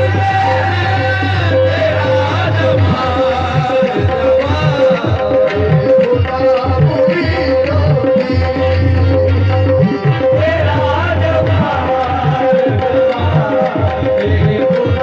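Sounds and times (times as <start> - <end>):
harmonium holding notes: 0.0 - 15.0
tabla drumming: 0.0 - 15.0.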